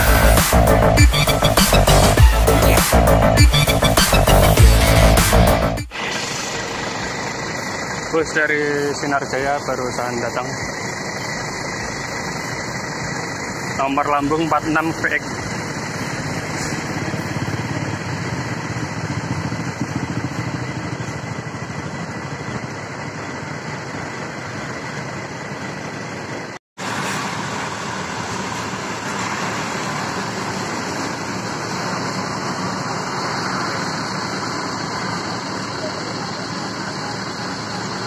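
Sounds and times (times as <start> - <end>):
bus diesel engines idling: 0.0 - 38.0.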